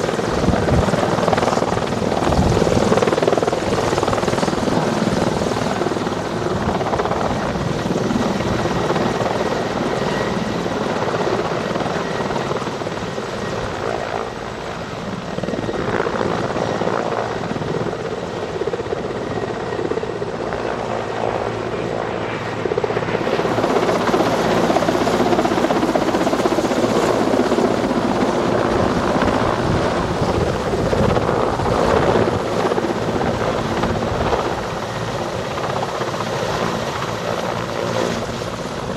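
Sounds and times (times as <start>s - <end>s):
helicopter rotor and engines: 0.0s - 38.9s.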